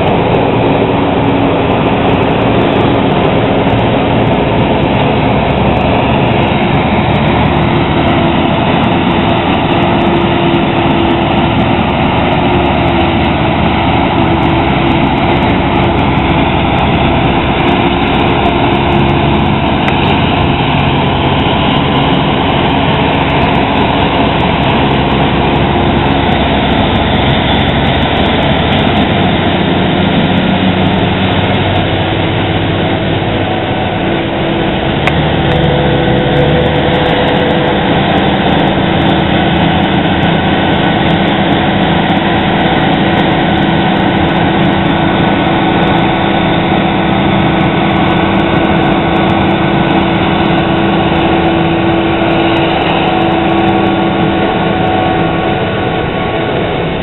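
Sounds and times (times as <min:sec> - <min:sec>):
harvesting machinery noise: 0:00.0 - 0:57.0.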